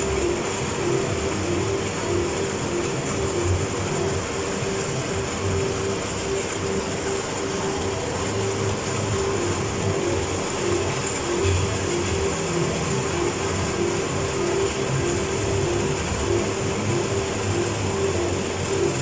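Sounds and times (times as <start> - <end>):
suction unit hissing and whining: 0.0 - 19.0.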